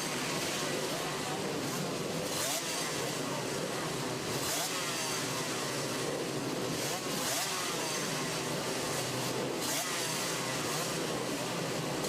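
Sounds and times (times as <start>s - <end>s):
racing motorcycles at high revs: 0.0s - 12.0s.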